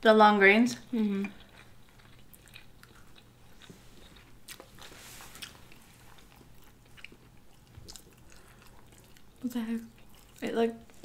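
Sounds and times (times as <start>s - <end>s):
chewing and biting: 1.2s - 11.0s.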